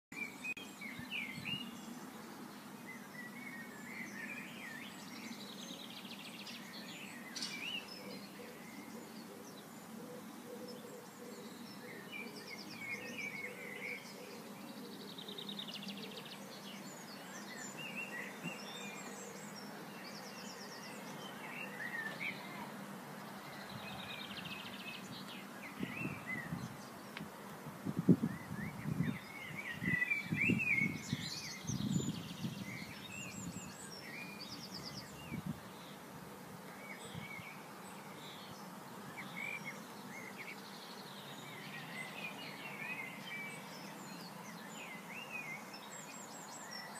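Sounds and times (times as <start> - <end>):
songbirds chirping and trilling: 0.1 - 46.9.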